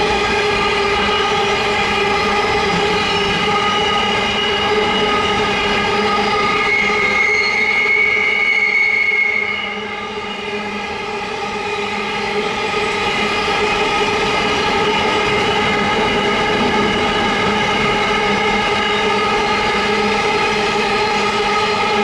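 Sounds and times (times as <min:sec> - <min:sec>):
freight train rolling past: 0:00.0 - 0:22.0
pitched whine: 0:00.2 - 0:22.0.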